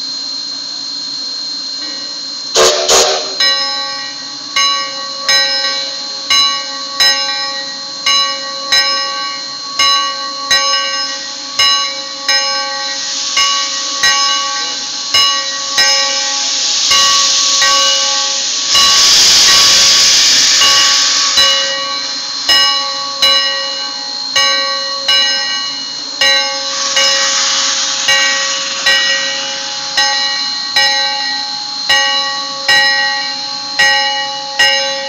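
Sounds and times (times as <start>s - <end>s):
locomotive bell ringing: 1.7s - 35.0s
steam hissing: 2.6s - 35.0s.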